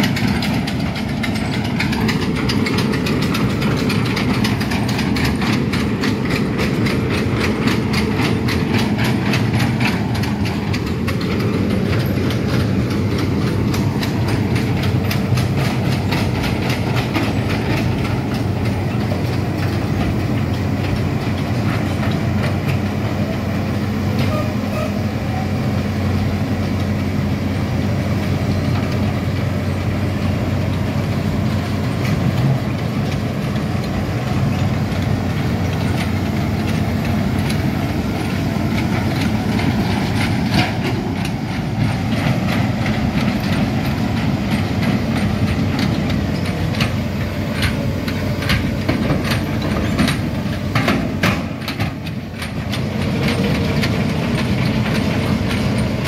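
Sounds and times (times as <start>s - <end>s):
diesel engine running: 0.0s - 56.0s
steel tracks clanking: 0.0s - 56.0s.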